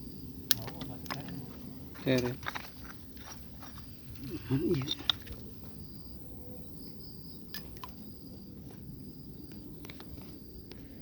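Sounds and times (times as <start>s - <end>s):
insects trilling: 0.0s - 11.0s
low outdoor background noise: 0.0s - 11.0s.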